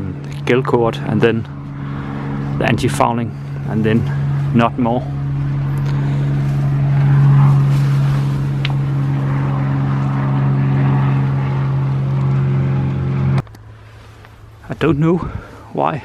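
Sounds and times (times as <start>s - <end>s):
electric sander with vacuum: 0.0s - 15.0s.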